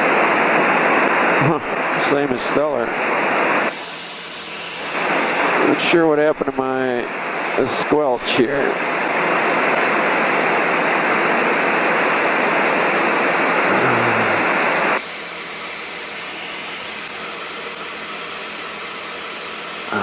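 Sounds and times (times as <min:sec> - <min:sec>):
radio static hissing: 0:00.0 - 0:20.0.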